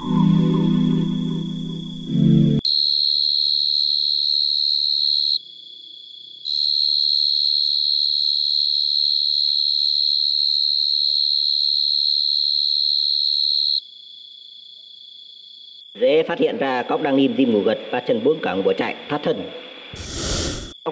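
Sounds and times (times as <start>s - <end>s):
cricket trilling loudly: 0.0s - 20.9s
faint cricket trilling: 0.0s - 20.9s.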